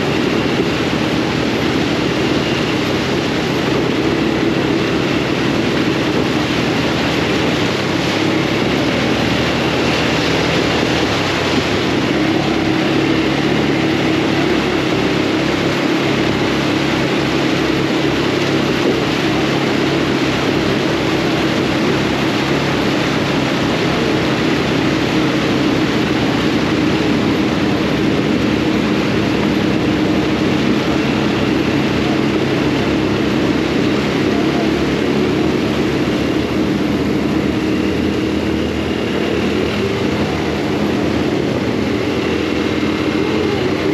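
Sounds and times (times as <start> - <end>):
off-road buggy engine running: 0.0 - 43.9.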